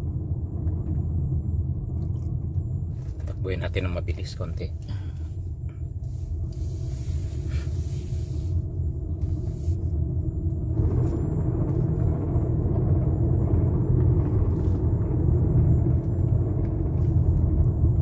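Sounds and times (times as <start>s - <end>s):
car driving on road: 0.0s - 18.0s
grinding rumble under car: 0.0s - 18.0s.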